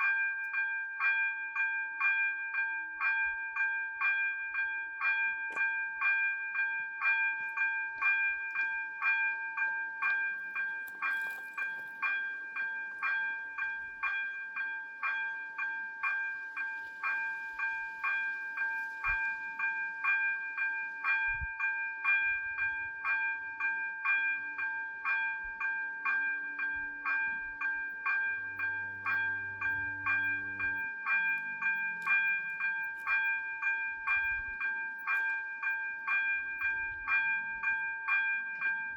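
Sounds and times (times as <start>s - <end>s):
level crossing bells ringing: 0.0s - 38.9s.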